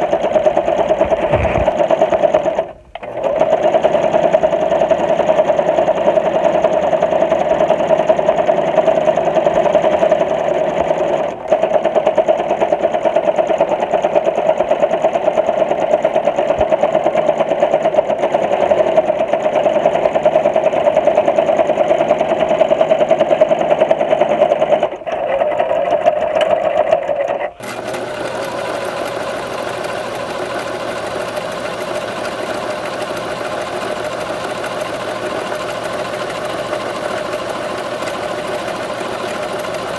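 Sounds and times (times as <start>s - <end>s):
sewing machine stitching rattle: 0.0s - 39.9s.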